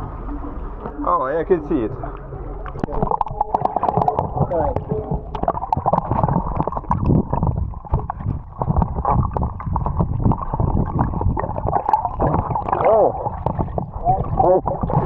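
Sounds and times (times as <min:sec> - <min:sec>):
water sloshing and gurgling: 0:00.0 - 0:15.0
small knocks and splashes: 0:02.6 - 0:15.0.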